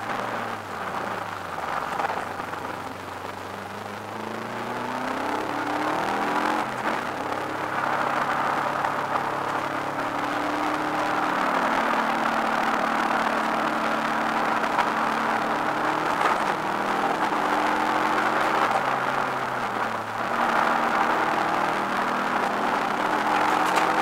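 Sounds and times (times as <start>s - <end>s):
car engine running hard: 0.0s - 24.0s.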